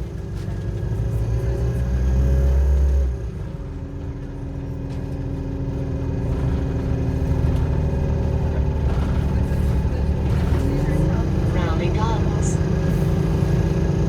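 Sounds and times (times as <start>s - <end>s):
bus drivetrain droning: 0.0s - 14.0s.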